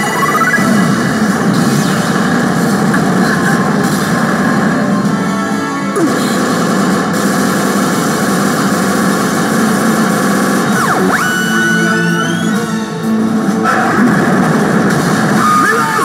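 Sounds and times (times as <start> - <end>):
electronic machine sound effects: 0.0 - 5.3, 5.9 - 16.0
loud din of gaming parlor: 0.0 - 16.0.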